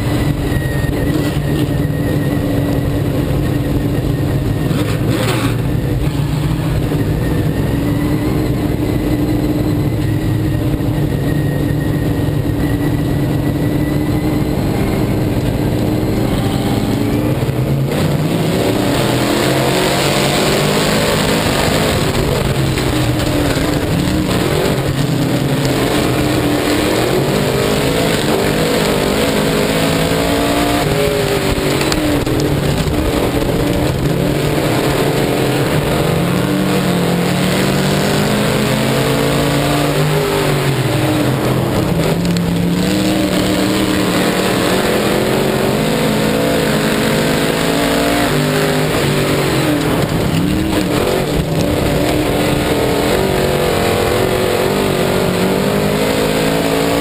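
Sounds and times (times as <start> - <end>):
race car engine: 0.0 - 57.0
wind and track noise: 0.0 - 57.0.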